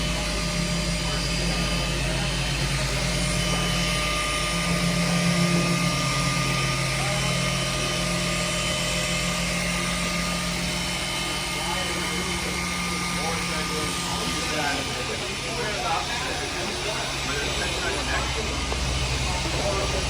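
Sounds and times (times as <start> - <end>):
electric sander motor hum: 0.0 - 20.0.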